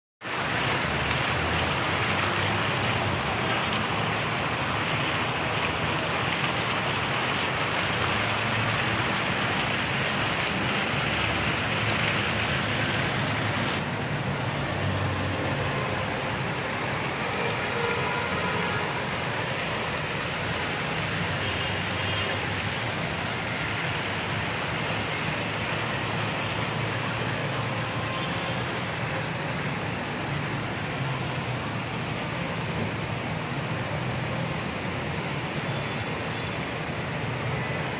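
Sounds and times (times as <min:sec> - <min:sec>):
fountain water splashing: 0:00.2 - 0:37.9.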